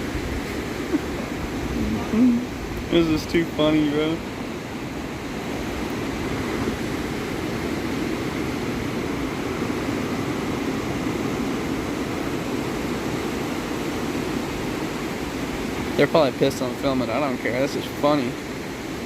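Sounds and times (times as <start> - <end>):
ocean surf rushing: 0.0 - 19.0.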